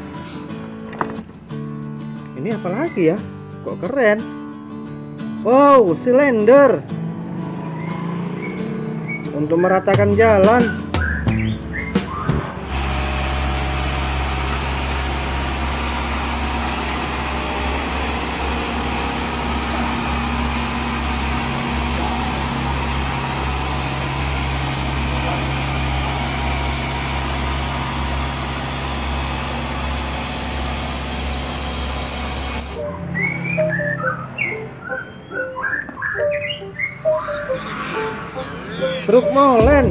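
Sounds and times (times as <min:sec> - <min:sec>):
road roller diesel engine: 0:00.0 - 0:01.5, 0:06.5 - 0:39.9.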